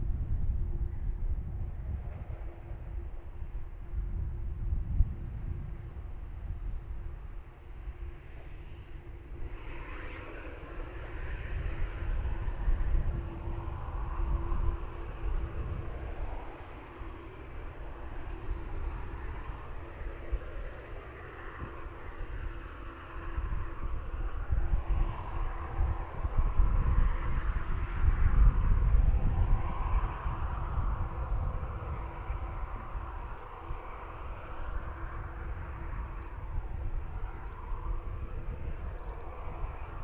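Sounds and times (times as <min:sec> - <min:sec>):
jet aircraft rumbling: 0:00.0 - 0:40.0.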